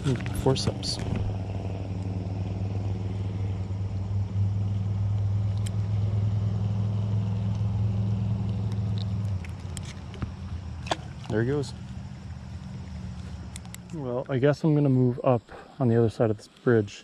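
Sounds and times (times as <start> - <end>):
vehicle engine humming: 0.0 - 16.3.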